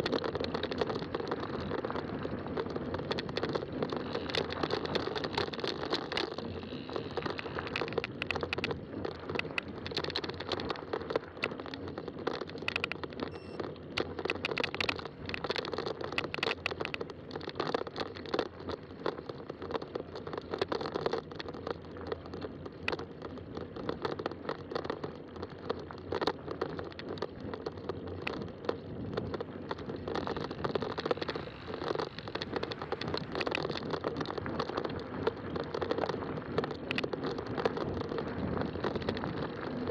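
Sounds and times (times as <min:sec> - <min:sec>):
bike tires rolling on trail: 0:00.0 - 0:39.9
small crackles and clicks: 0:00.0 - 0:39.9.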